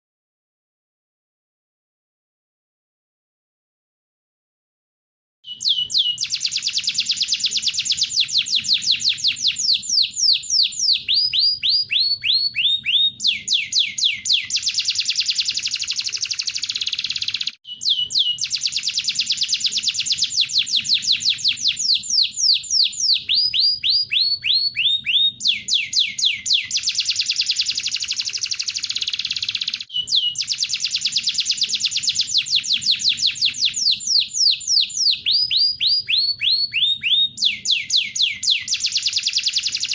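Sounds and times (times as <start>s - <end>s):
birdsong trills and chirps: 5.5s - 39.9s.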